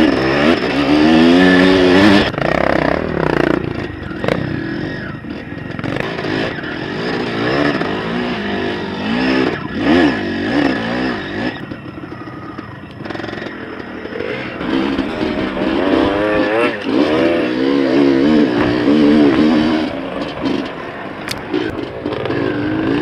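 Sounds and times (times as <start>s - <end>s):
bike rattling over rough ground: 0.0s - 23.0s
dirt bike engine revving: 0.0s - 23.0s.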